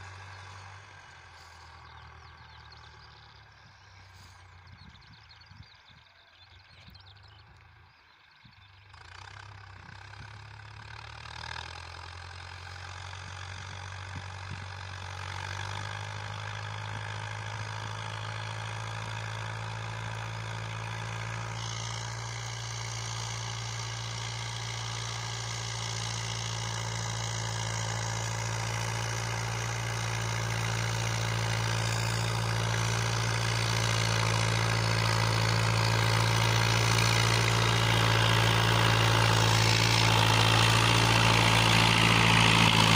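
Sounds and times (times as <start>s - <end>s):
tractor diesel engine: 0.0s - 5.9s, 6.6s - 42.9s.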